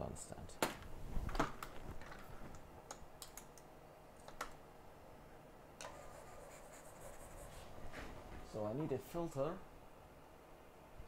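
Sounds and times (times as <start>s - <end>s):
faint high hiss: 0.0s - 11.0s.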